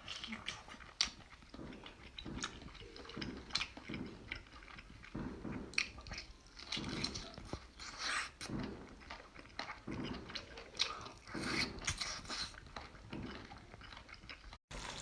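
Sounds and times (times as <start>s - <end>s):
wet mouth sounds: 0.0s - 14.6s
person chewing seafood: 0.0s - 15.0s.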